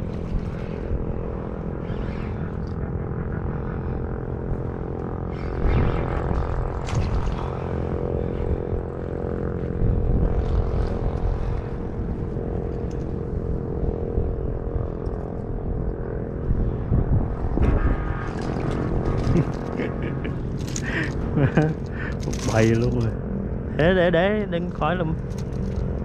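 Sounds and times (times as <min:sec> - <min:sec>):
low rumble: 0:00.0 - 0:26.0
steady engine-like drone: 0:00.0 - 0:26.0.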